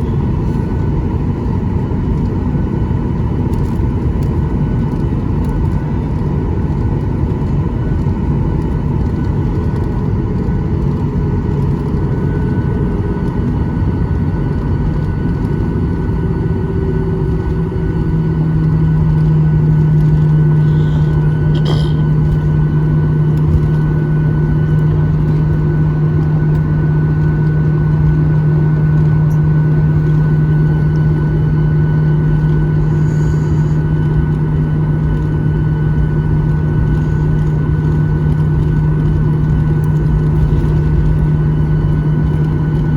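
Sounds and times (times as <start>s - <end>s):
airplane cabin rumble: 0.0s - 42.9s
low steady hum: 0.0s - 42.9s.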